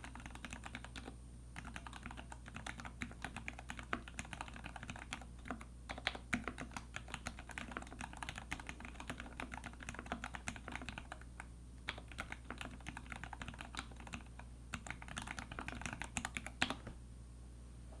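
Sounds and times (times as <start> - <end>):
mechanical keyboard typing: 0.0 - 16.9.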